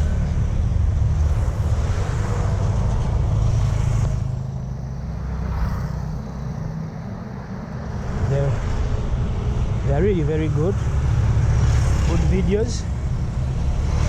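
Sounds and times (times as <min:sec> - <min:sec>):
vehicle passing with tyre rumble: 0:00.0 - 0:14.0.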